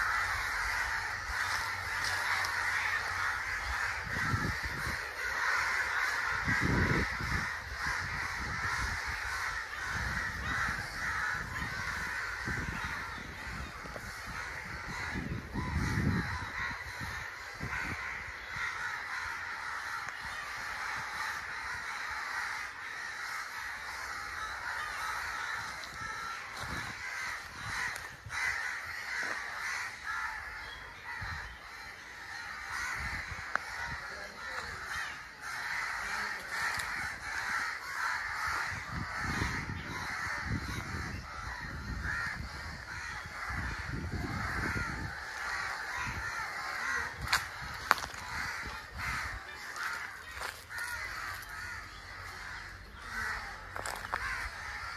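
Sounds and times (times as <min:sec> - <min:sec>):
crows cawing: 0:00.0 - 0:54.9.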